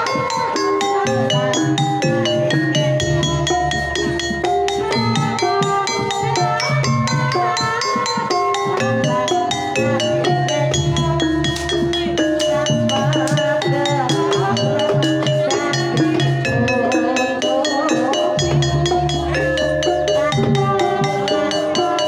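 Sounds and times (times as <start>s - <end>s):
drumming: 0.0s - 22.0s
gamelan ensemble playing: 0.0s - 22.0s.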